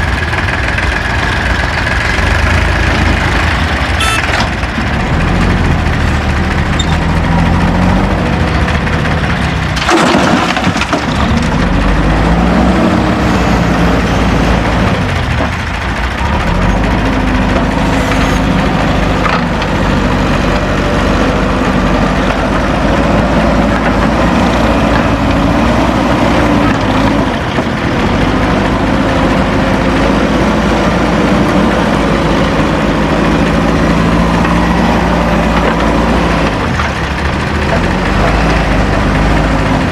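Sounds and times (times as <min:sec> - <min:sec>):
diesel machinery engine revving: 0:00.0 - 0:39.9.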